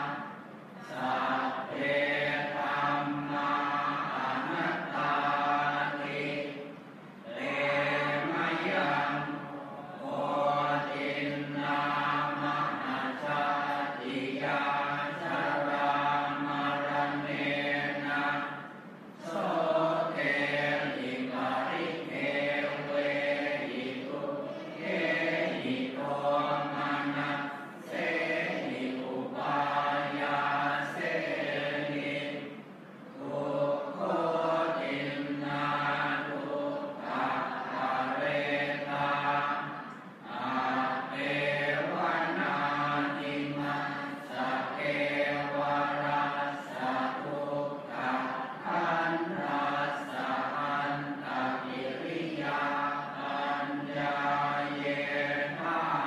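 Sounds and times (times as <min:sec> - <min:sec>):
group chanting: 0:00.0 - 0:56.0.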